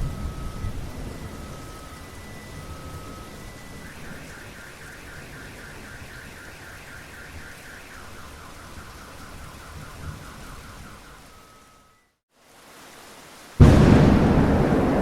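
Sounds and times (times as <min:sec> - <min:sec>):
car alarm warbling: 0:00.0 - 0:12.0
steady rain falling: 0:00.0 - 0:15.0.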